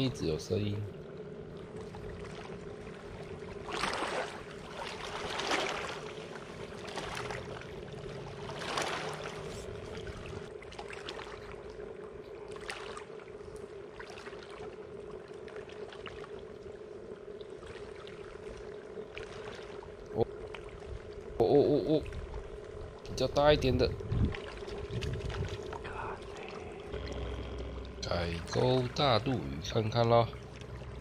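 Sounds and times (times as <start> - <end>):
steady low hum: 0.0 - 31.0
water splashing and sloshing: 0.0 - 31.0.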